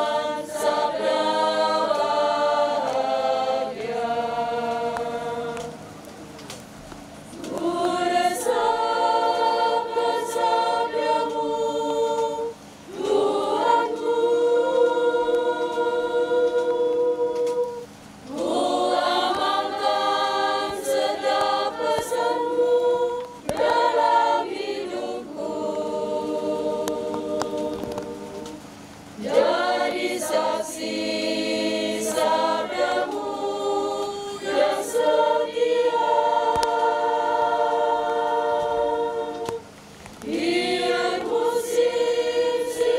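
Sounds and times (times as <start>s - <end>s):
choir singing a hymn: 0.0s - 6.1s, 7.2s - 42.9s.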